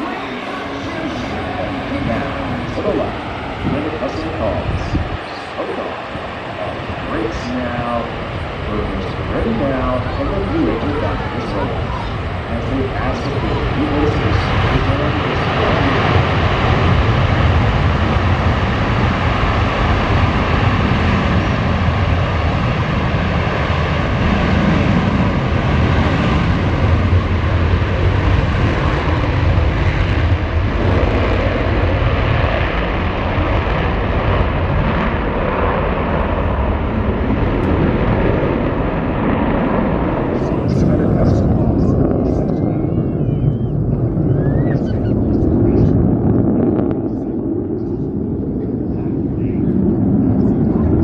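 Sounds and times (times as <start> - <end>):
high jet whine: 0.0 - 51.0
jet engines roaring: 0.0 - 51.0.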